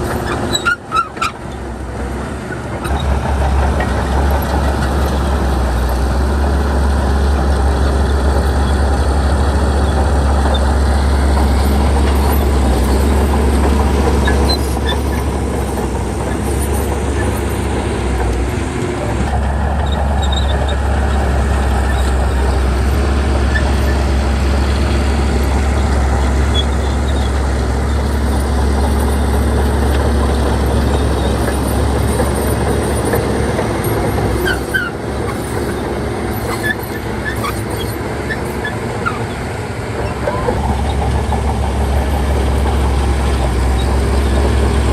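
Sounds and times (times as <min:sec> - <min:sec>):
heavy diesel engine droning: 0:00.0 - 0:44.9.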